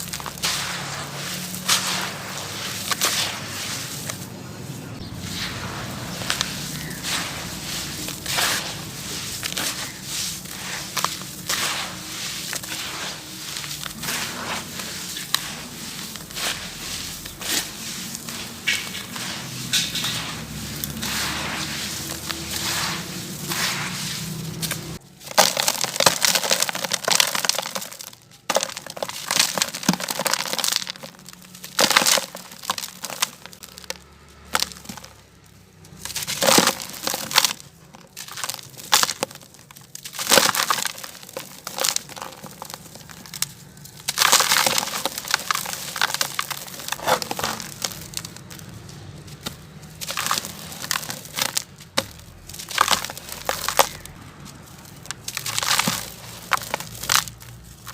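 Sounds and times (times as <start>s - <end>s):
brittle pieces crushed by hand: 0.0s - 4.4s, 5.4s - 57.9s.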